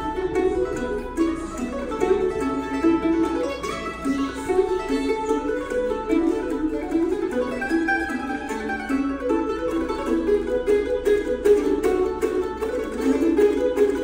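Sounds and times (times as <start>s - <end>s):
mandolin duet: 0.0s - 14.0s.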